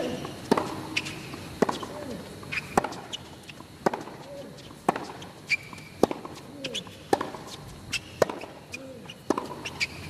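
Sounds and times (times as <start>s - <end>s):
shoes squeaking on court: 0.0s - 10.0s
tennis ball bouncing: 0.0s - 10.0s
tennis ball hitting racket: 0.1s - 3.2s, 3.8s - 10.0s.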